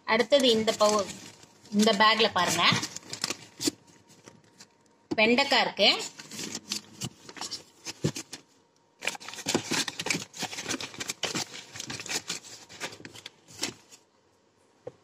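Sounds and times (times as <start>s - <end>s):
paper bags rustling: 0.2s - 4.7s, 5.4s - 14.0s.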